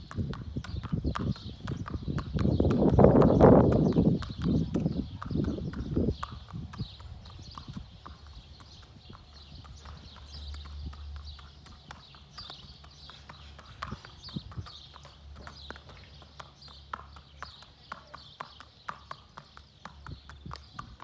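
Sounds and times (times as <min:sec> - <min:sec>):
hooves clip-clopping on asphalt: 0:00.0 - 0:21.0.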